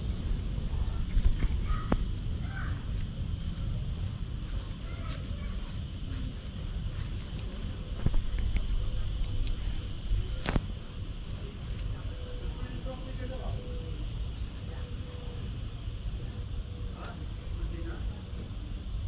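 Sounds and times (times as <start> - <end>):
faint voices: 0.0 - 19.0.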